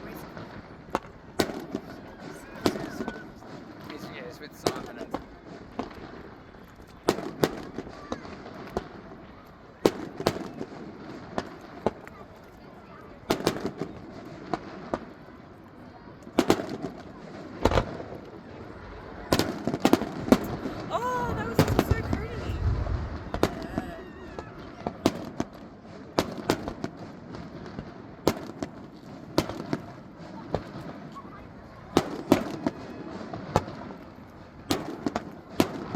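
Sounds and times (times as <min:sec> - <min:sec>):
fireworks exploding: 0:00.0 - 0:35.9.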